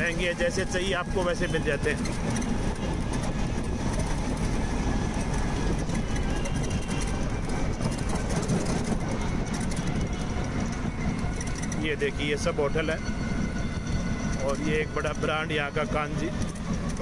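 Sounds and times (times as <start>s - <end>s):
road noise low rumble: 0.0s - 17.0s.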